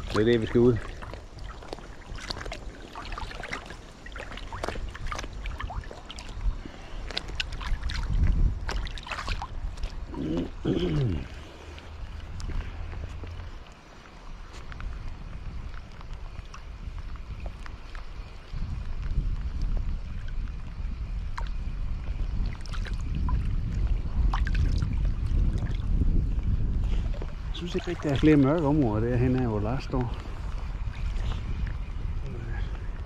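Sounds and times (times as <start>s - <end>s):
low wind rumble: 0.0s - 33.0s
sea water lapping and splashing: 0.0s - 33.0s.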